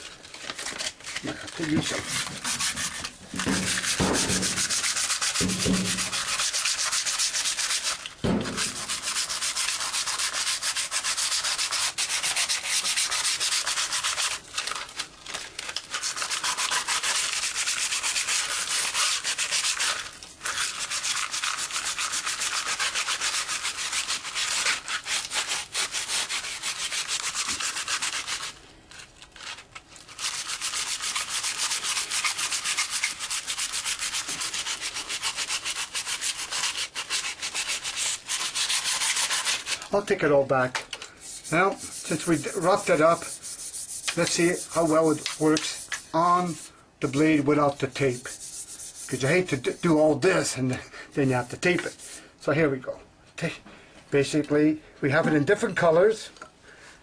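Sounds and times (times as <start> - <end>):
sandpaper rubbing: 0.0 - 15.0, 15.7 - 28.6, 29.4 - 50.5, 51.2 - 52.3.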